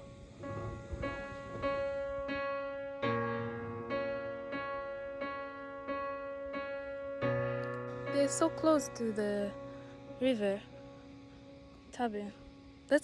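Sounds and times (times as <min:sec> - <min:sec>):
slow soft piano piece: 0:00.0 - 0:13.0.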